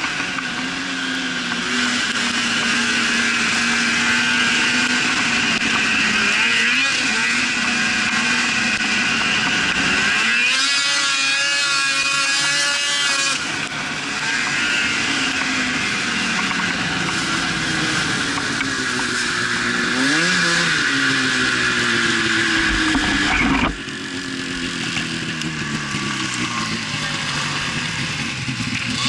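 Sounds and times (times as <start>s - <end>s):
snowmobile engine running: 0.0s - 29.0s.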